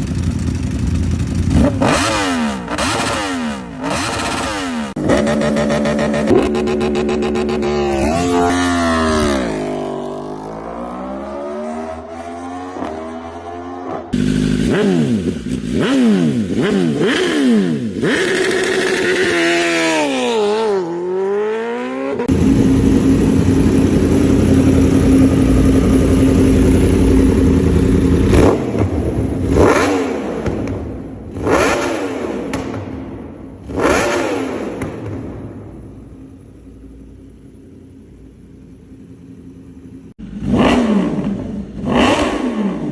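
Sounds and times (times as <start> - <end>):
motorcycle engines revving: 0.0 - 38.0, 39.4 - 42.9.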